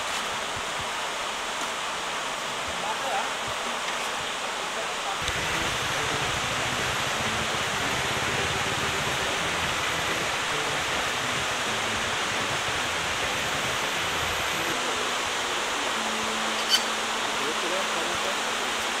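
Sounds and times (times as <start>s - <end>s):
loud rush of water: 0.0s - 19.0s.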